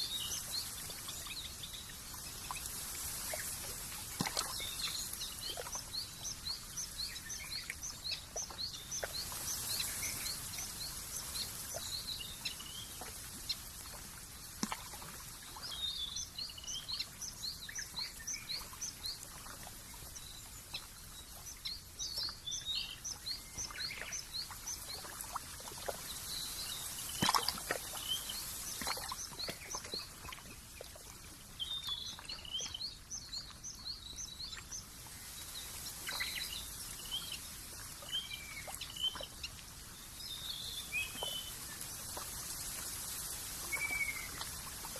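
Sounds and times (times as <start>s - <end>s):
open-country ambient hiss: 0.0s - 44.9s.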